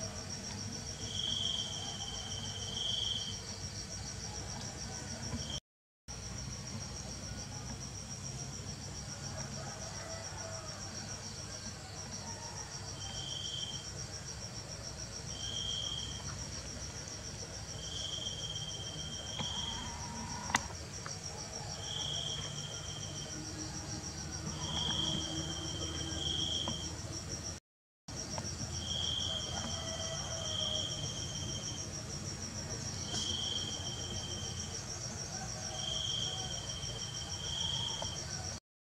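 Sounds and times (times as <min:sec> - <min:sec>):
crickets trilling: 0:00.0 - 0:38.6
lower insect chirp: 0:00.0 - 0:38.6.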